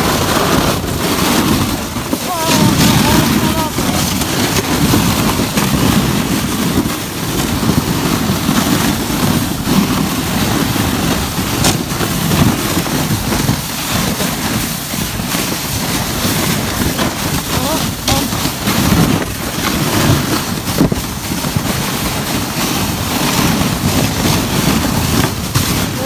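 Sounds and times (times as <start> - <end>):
atv engine running: 0.0 - 26.0
sled knocking over bumps: 0.0 - 26.0
sled scraping over snow: 0.0 - 26.0.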